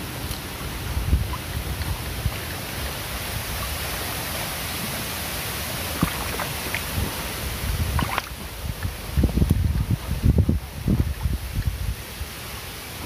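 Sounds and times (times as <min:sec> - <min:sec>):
creek water over stones: 0:00.0 - 0:13.0.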